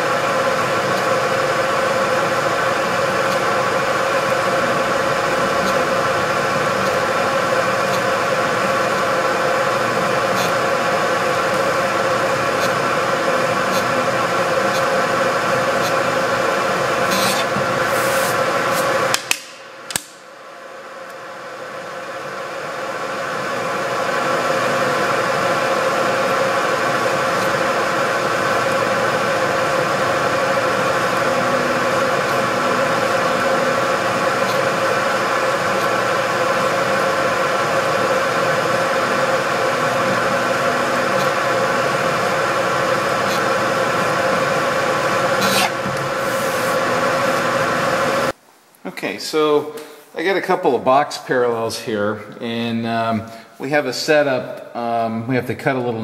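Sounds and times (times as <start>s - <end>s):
milling machine spindle hum: 0.0s - 48.4s.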